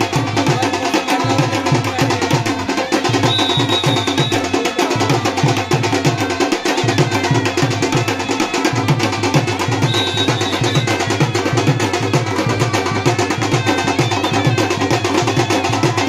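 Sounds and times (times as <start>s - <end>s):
fast steady drumming: 0.0s - 16.0s
high held tone: 1.1s - 16.0s.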